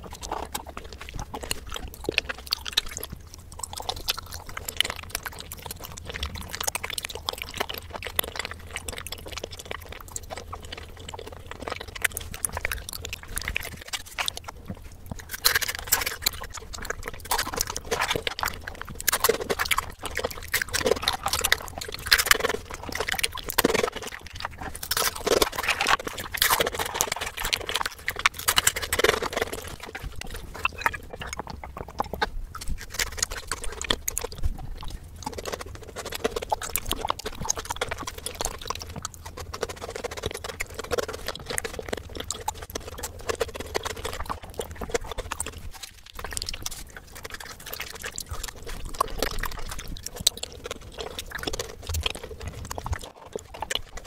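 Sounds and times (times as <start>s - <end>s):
chewing crunches and smacks: 0.0s - 54.0s.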